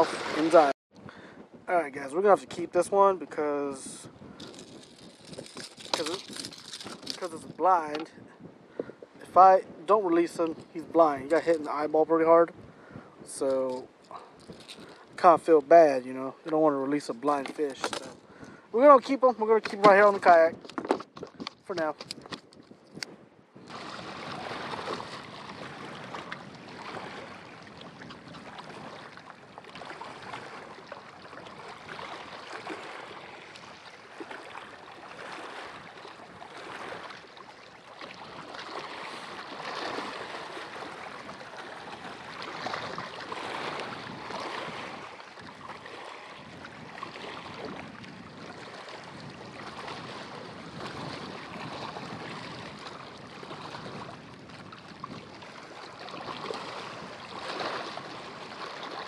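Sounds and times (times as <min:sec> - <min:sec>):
waves lapping against rocks: 0:00.0 - 0:00.8, 0:01.7 - 0:59.0
wind over lake: 0:00.0 - 0:59.0.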